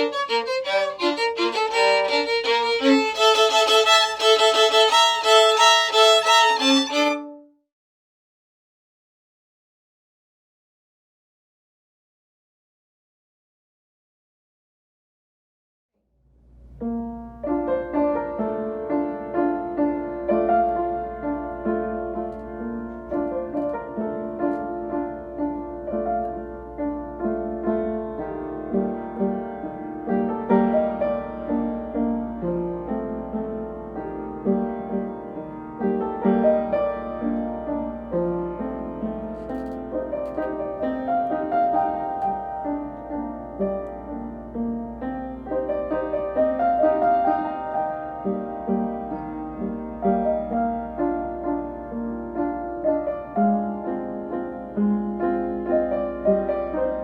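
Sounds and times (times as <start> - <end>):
solo piano piece: 0.0 - 7.5, 16.5 - 57.0.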